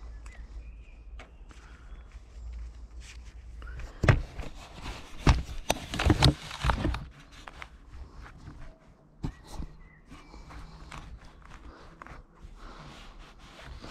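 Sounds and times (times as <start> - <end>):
glove fabric rustling: 1.7 - 13.9.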